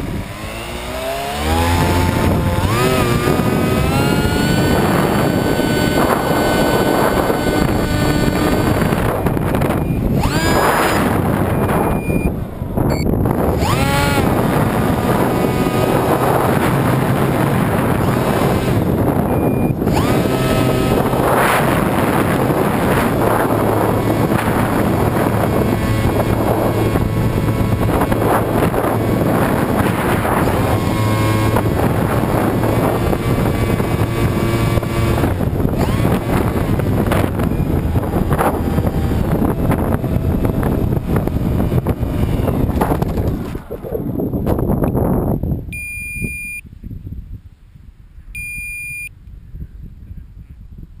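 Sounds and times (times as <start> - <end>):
model plane motor whine: 0.0 - 43.8
wind rushing over microphone: 0.0 - 51.0.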